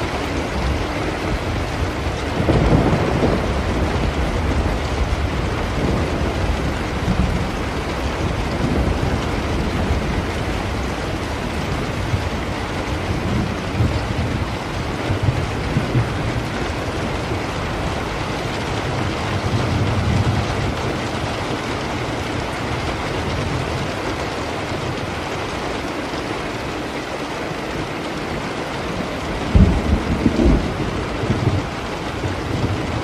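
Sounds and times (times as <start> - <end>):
rolling thunder: 0.0 - 25.4, 28.3 - 33.0
steady rain: 0.0 - 33.0.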